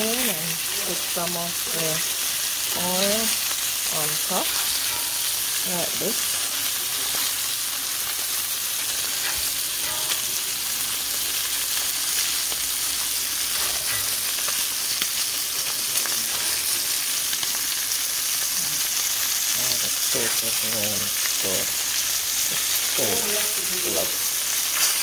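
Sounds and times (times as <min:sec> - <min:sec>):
steak sizzling in a skillet: 0:00.0 - 0:25.0
spoon basting steak: 0:00.6 - 0:25.0.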